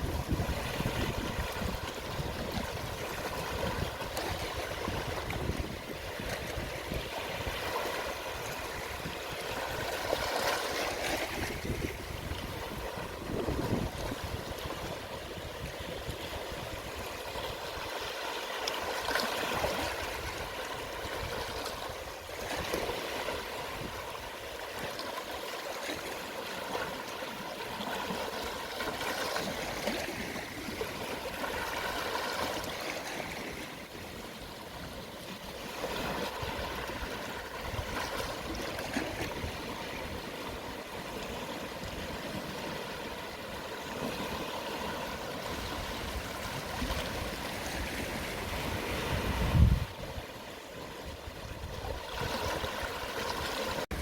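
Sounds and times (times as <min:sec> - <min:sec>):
gentle sea waves on shore: 0:00.0 - 0:54.0.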